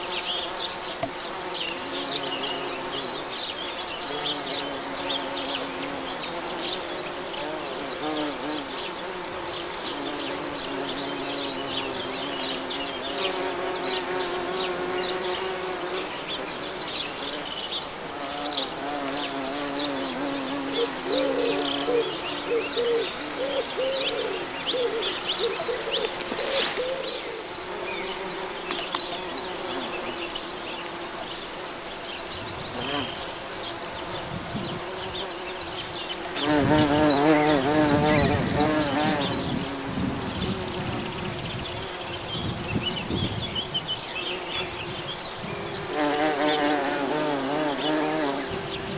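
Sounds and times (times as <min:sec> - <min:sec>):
bumblebees buzzing: 0:00.0 - 0:48.9.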